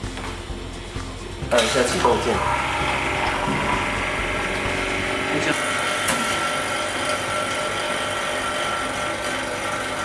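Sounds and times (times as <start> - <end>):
vacuum machine humming: 1.5 - 10.0.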